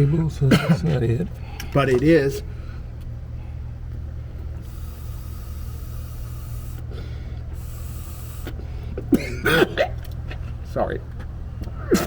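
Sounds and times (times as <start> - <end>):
car engine idling: 1.3 - 11.8.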